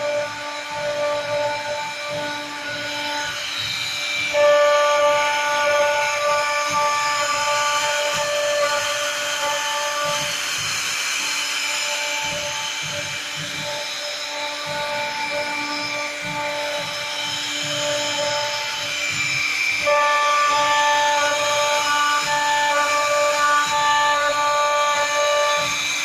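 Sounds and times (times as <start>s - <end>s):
hiss: 0.0s - 26.0s
machine whining in several tones: 0.0s - 26.0s.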